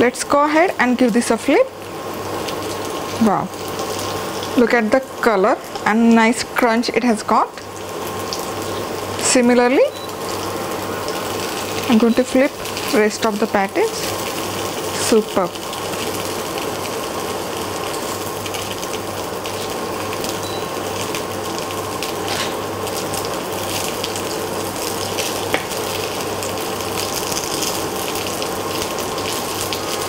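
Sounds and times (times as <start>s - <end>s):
patties sizzling in oil: 0.0s - 30.0s.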